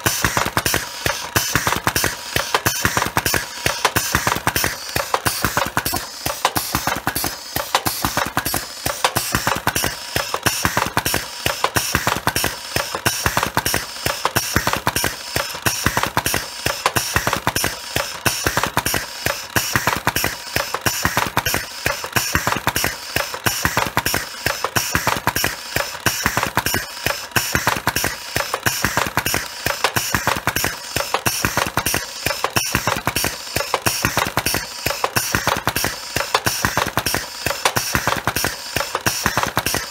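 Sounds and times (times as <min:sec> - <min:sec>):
machine clattering: 0:00.0 - 0:39.9.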